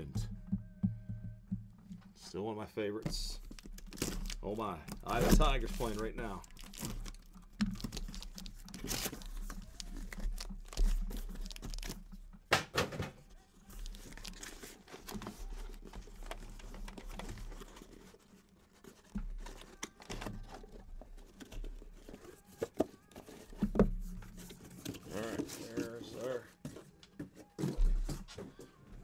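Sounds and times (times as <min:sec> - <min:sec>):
cardboard packaging crinkling and tearing: 0:03.4 - 0:12.3, 0:13.3 - 0:28.3.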